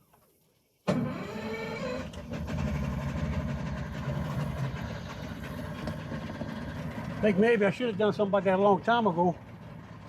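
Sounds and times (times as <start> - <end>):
boat engine idling: 0.9 - 10.0.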